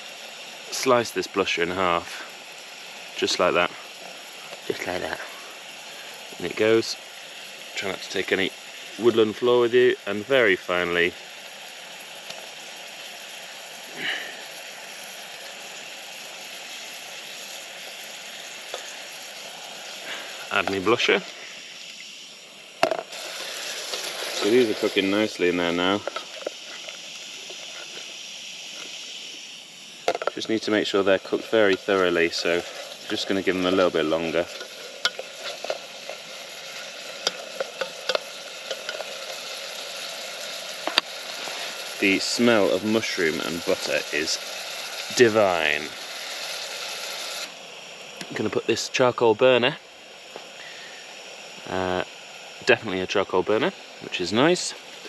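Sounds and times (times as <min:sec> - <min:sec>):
butter and onions sizzling: 0:00.0 - 0:55.0
gas stove hissing: 0:00.0 - 0:55.0.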